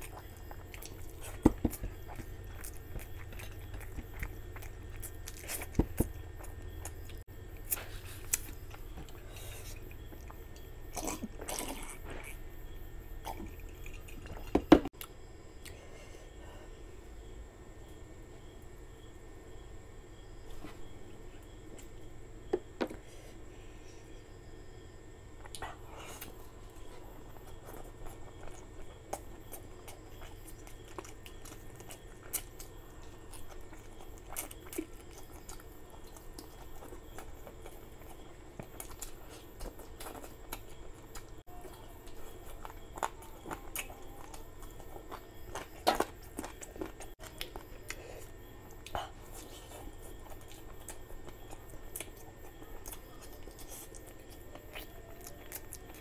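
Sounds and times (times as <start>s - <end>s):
chewing and biting: 0.0s - 15.7s, 25.4s - 56.0s.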